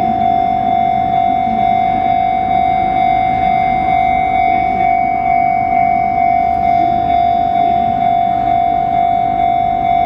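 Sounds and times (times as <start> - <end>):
level crossing warning alarm: 0.0 - 10.0.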